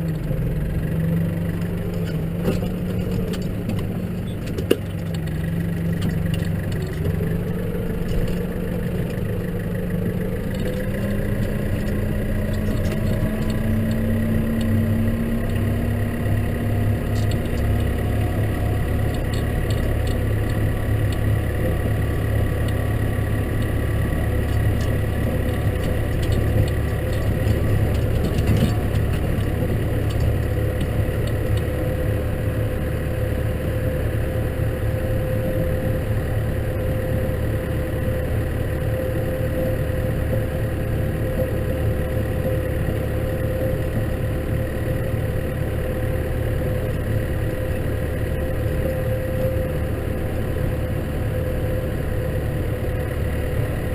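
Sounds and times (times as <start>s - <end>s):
steady whine: 0.0s - 53.9s
tractor diesel engine running: 0.0s - 53.9s.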